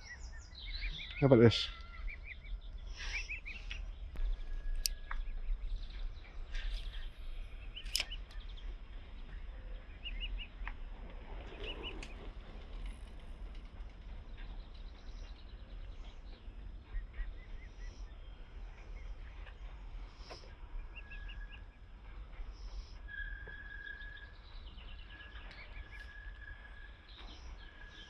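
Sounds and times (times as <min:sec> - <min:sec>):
small birds chirping and trilling: 0:00.0 - 0:28.0
steady low rumble: 0:02.0 - 0:28.0.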